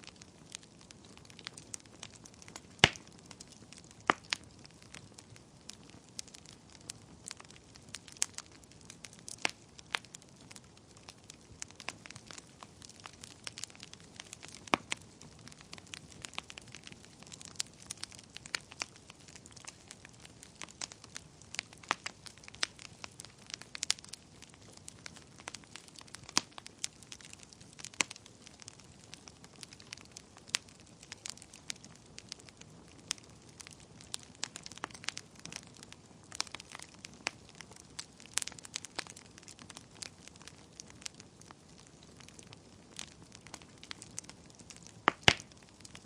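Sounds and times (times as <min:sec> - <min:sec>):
soft hiss of flames: 0:00.0 - 0:46.0
wood fire crackling: 0:00.0 - 0:46.0
sharp pops of fire: 0:00.1 - 0:46.0.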